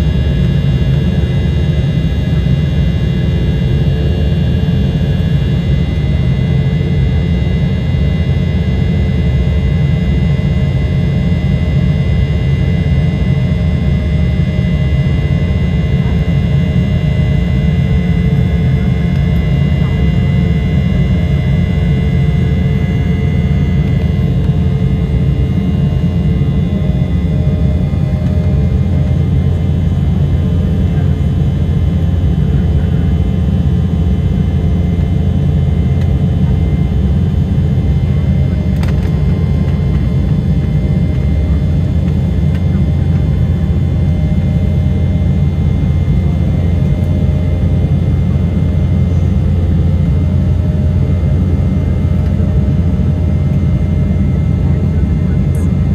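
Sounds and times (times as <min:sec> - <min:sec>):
faint higher engine tone: 0:00.0 - 0:55.9
jet engines low rumble: 0:00.0 - 0:55.9.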